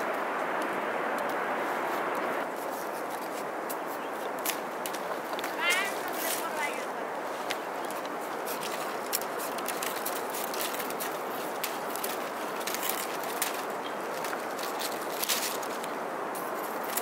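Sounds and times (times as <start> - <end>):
bamboo strips clicking and rustling: 2.1 - 17.0.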